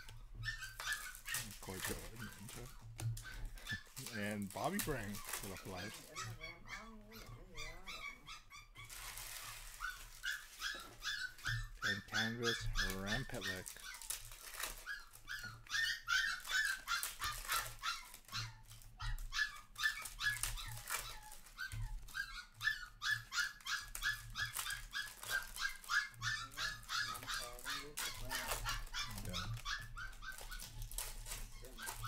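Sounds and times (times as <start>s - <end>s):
dog whining and crying: 0.0s - 32.0s.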